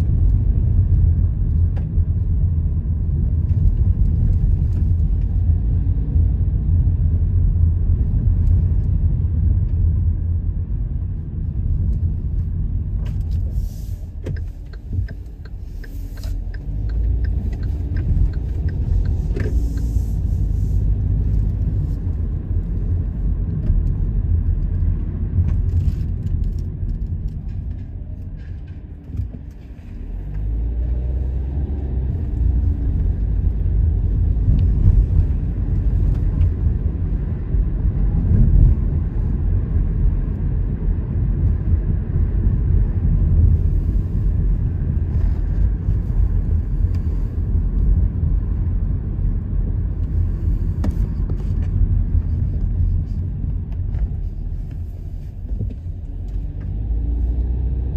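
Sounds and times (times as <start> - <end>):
road and engine rumble inside car: 0.0 - 57.9.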